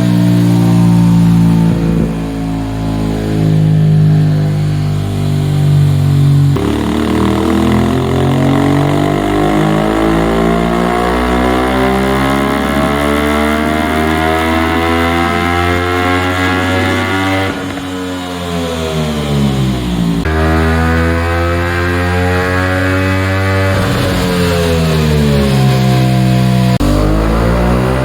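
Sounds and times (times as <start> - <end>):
motorcycle engine revving on a dyno: 0.0 - 28.0.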